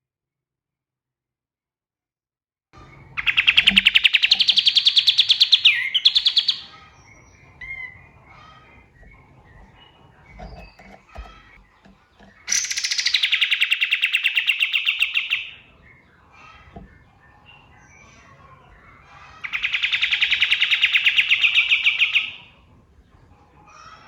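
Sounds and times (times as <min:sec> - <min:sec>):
faint bird chirps: 0:02.8 - 0:24.0
songbird trilling: 0:02.8 - 0:24.0.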